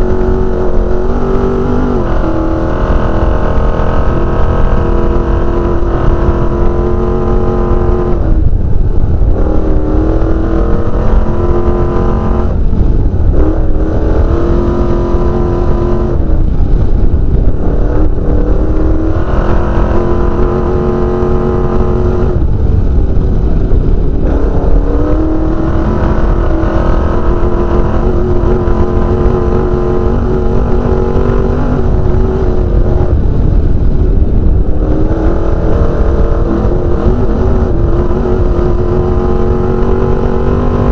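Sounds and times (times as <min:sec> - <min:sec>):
heavy low rumble: 0:00.0 - 0:40.9
race car engine revving: 0:00.0 - 0:40.9.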